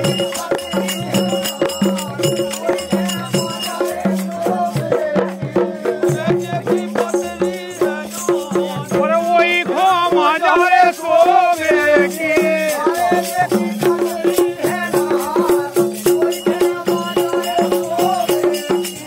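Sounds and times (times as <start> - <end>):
fast drum beat: 0.0 - 19.0
person singing ornamented notes: 0.0 - 19.0
rattling percussion: 0.0 - 19.0.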